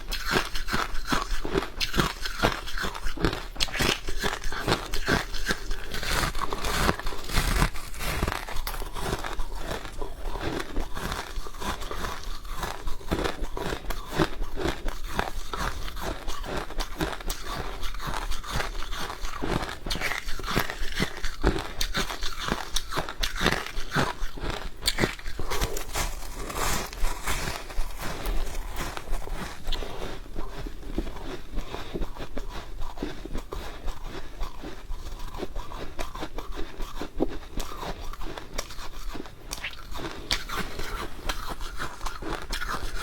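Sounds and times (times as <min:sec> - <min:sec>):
crunching and chewing frost: 0:00.0 - 0:43.0.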